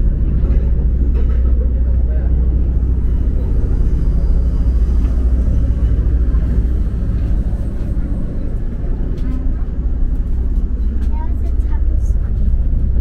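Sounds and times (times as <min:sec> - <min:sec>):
railcar running rumble: 0:00.0 - 0:13.0.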